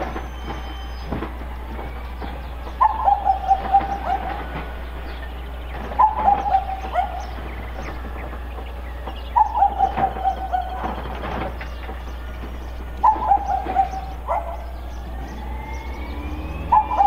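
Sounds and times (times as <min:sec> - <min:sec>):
bird chattering call: 0:02.3 - 0:17.0.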